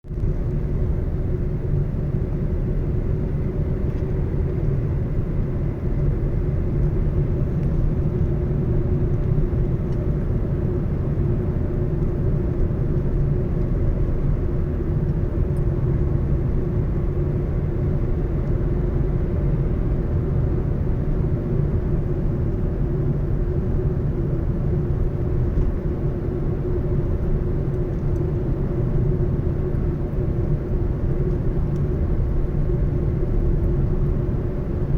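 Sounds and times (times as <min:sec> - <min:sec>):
car driving on road: 0:00.1 - 0:34.9.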